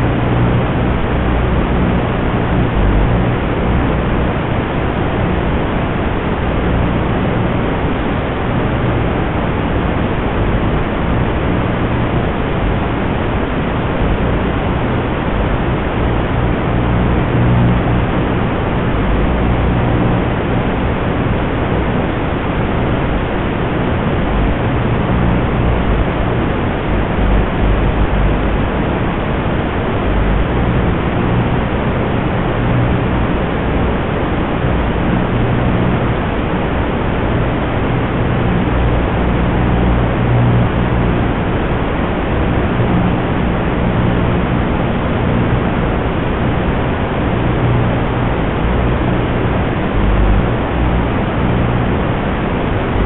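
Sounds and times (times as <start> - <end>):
loud video receiver static hiss: 0.0 - 53.0
low hum: 0.0 - 53.0.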